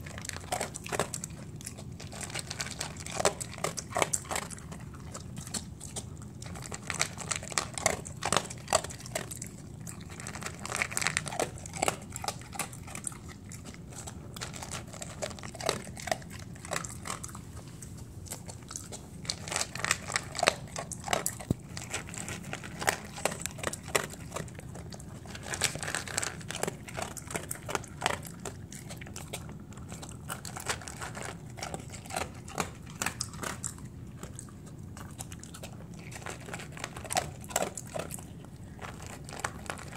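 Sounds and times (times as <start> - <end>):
dog crunching dry kibble: 0.0 - 39.9.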